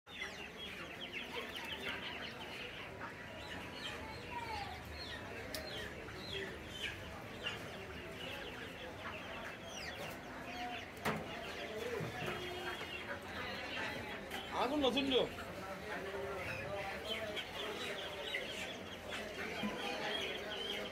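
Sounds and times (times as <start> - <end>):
quail and poultry chirping and clucking: 0.1 - 20.9.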